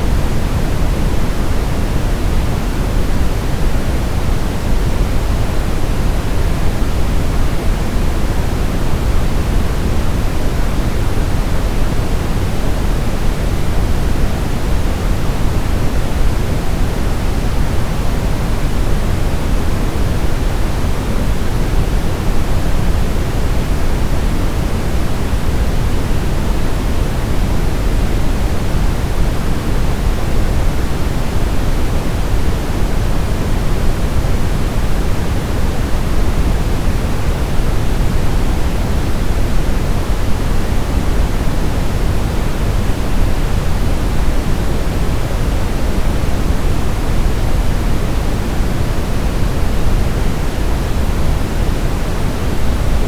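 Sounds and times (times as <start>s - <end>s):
steady pink noise hiss: 0.0s - 53.0s.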